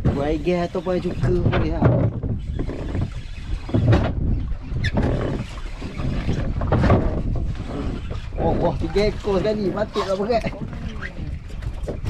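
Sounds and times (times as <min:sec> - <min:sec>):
water washing against boat hull: 0:00.0 - 0:12.0
wind rumbling on microphone: 0:00.0 - 0:12.0.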